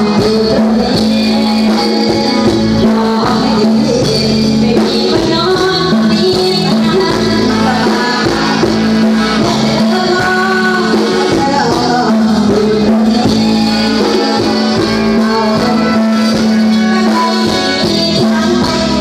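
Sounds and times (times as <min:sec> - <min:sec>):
live band music over pa: 0:00.0 - 0:19.0.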